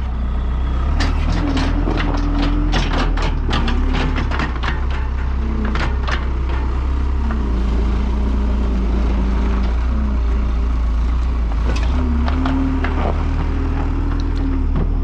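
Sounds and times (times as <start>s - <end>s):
skid steer engine rumbling: 0.0s - 15.0s.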